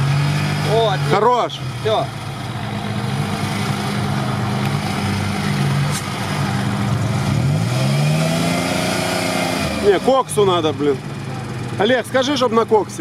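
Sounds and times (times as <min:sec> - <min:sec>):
suv engine running at low revs: 0:00.0 - 0:13.0.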